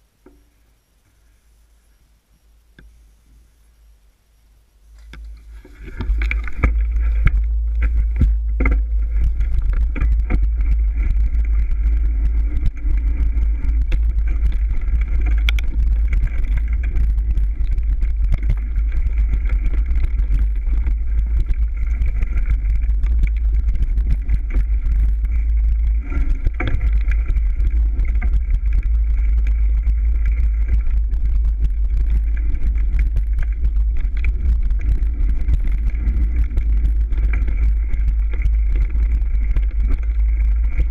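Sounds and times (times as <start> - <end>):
wind rumble on microphone: 4.9 - 40.9
bike rattling and clicking: 5.0 - 40.9.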